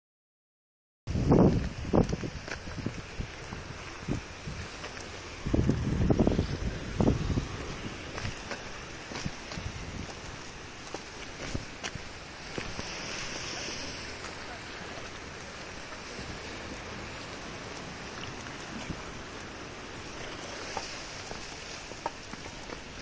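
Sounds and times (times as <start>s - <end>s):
sea washing against rocky shore: 1.1s - 23.0s.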